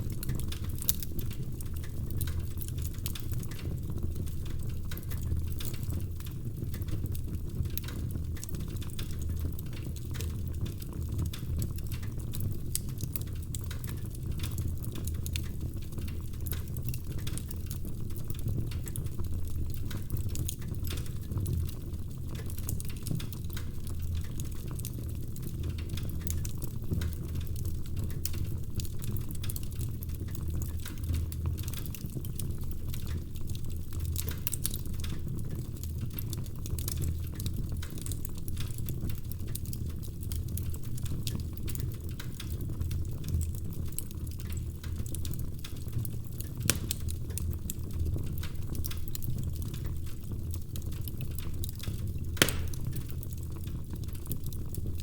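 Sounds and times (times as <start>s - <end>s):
low rumble of burning logs: 0.0s - 55.0s
wood fire crackling: 0.0s - 55.0s.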